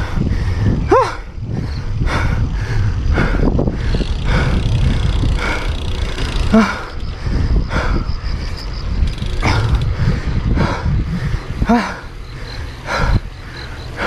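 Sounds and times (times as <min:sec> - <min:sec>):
cyclist breathing hard: 0:00.0 - 0:14.0
wind buffeting microphone: 0:00.0 - 0:14.0.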